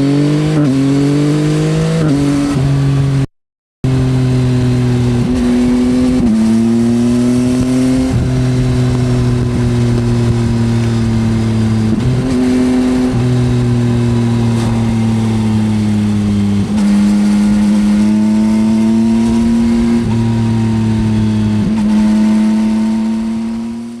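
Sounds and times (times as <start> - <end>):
motorcycle engine on open road: 0.0 - 24.0.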